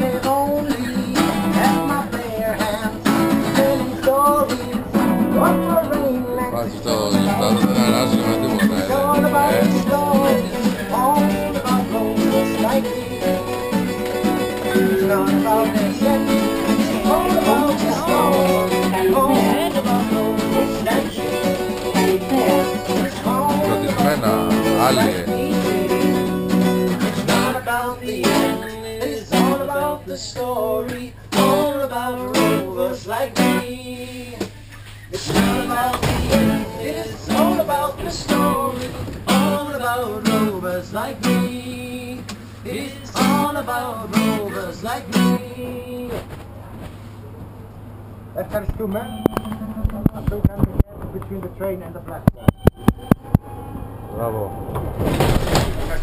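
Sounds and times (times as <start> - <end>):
acoustic guitar playing: 0.0 - 46.2, 52.3 - 56.0.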